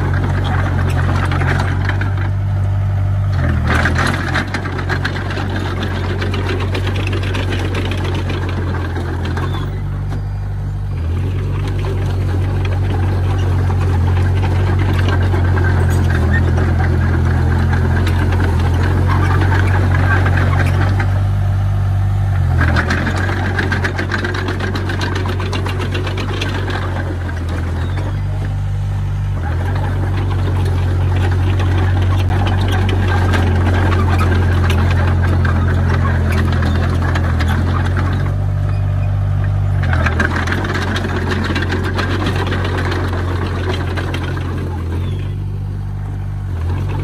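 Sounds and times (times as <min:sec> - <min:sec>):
bulldozer diesel engine under load: 0:00.0 - 0:47.0
steady clatter: 0:00.0 - 0:47.0.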